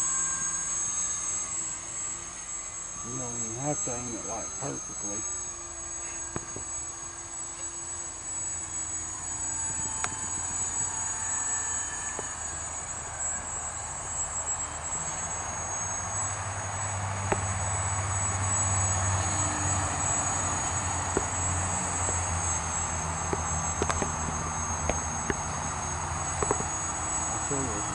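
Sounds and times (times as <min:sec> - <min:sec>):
model plane motor whining: 0:00.0 - 0:27.9.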